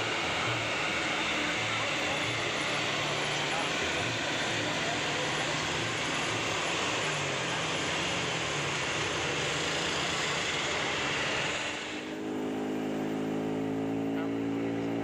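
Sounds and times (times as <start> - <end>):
diesel bus engine: 0.0 - 15.0.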